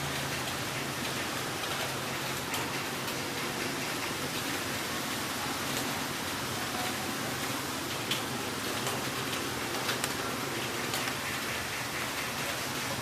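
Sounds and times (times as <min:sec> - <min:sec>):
heavy rain hissing: 0:00.0 - 0:13.0
raindrop ticks: 0:00.0 - 0:13.0.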